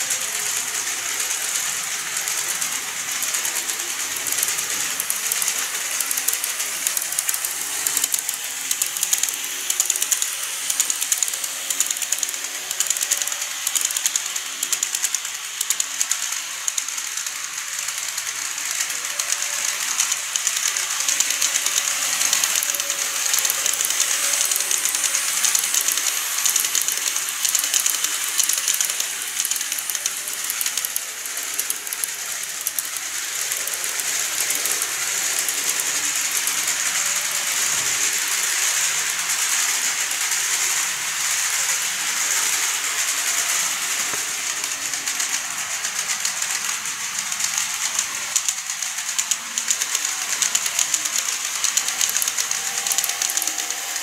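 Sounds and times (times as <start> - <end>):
wheels clicking on rails: 0.0 - 54.0.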